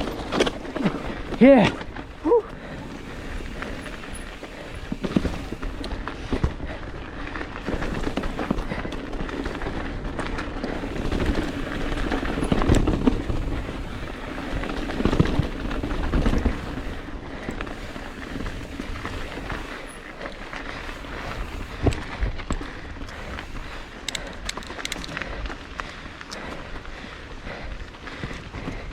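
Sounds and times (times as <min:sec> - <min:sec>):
mountain bike rattling: 0:00.0 - 0:28.9
tyre noise on rocky trail: 0:00.0 - 0:28.9.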